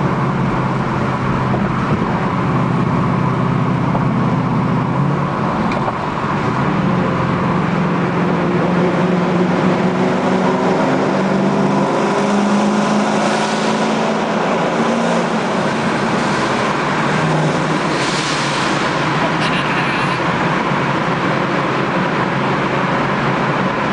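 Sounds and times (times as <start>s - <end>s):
car engine droning in tunnel: 0.0s - 23.9s.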